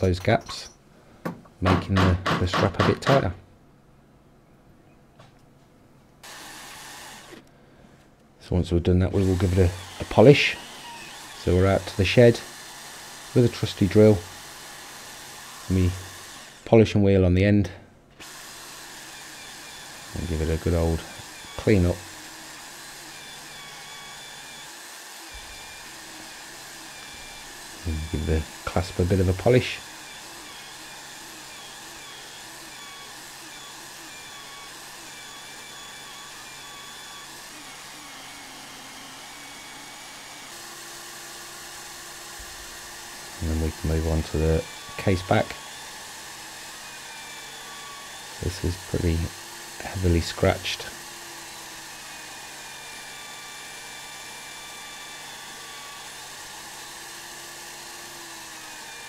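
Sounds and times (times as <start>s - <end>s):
electric drill motor whine: 6.2s - 7.5s, 9.1s - 16.7s, 18.2s - 59.0s.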